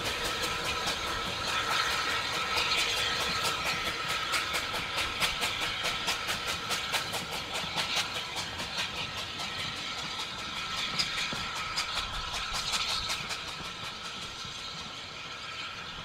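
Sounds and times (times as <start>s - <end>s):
steam train clicks: 0.0s - 16.0s
steam train rumble and hiss: 0.0s - 16.0s.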